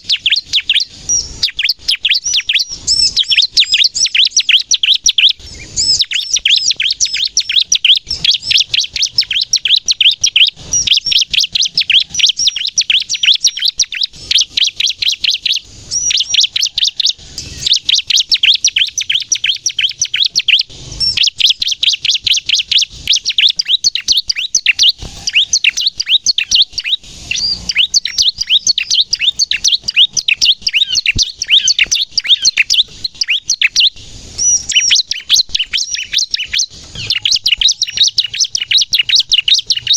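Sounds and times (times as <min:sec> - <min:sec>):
bird singing high-pitched chirps: 0:00.0 - 0:39.9.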